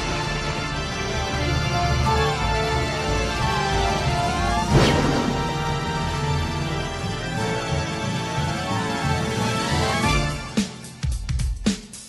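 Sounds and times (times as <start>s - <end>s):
theme music with low bass: 0.0s - 11.7s.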